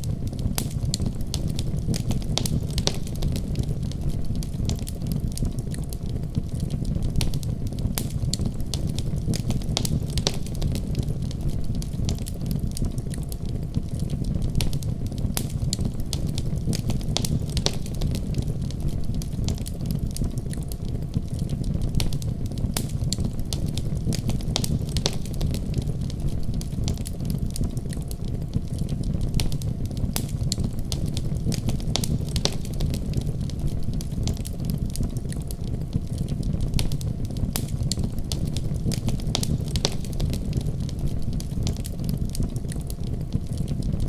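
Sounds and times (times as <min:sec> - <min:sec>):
low roar of flames: 0:00.0 - 0:44.0
wood fire crackling: 0:00.0 - 0:44.0.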